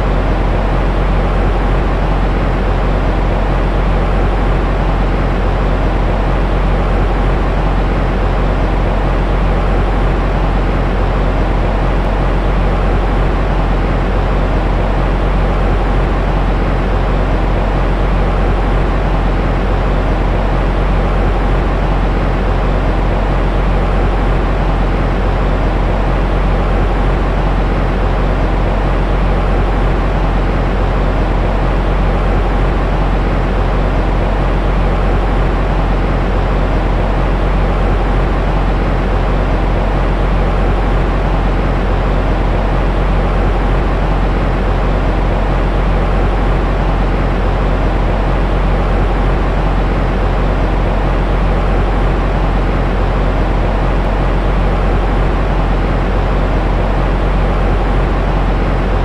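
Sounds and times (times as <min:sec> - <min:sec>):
deep rumbling white noise: 0:00.0 - 0:59.0.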